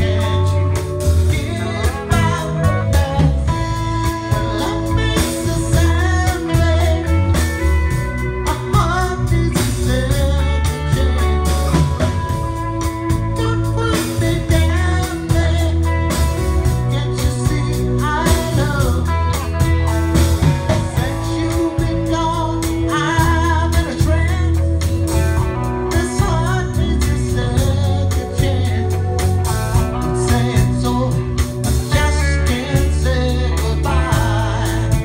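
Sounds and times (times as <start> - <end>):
drums: 0.0 - 35.0
electric guitars: 0.0 - 35.0
person singing: 0.0 - 35.0.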